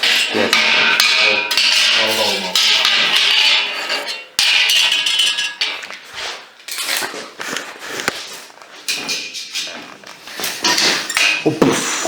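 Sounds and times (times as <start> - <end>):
metal pipe and tools clinking: 0.0 - 12.0.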